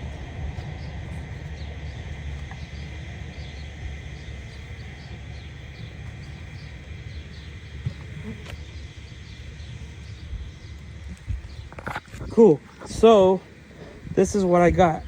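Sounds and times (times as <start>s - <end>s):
low rumble: 0.0s - 15.0s
small bird chirping: 0.6s - 15.0s.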